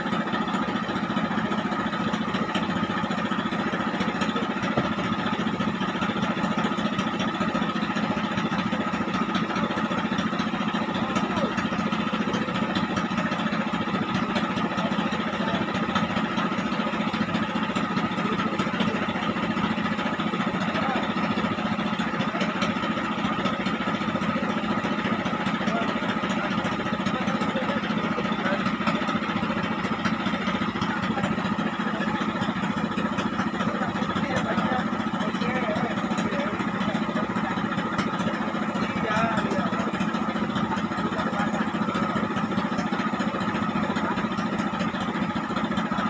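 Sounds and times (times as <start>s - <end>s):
engine running steadily: 0.0s - 46.0s.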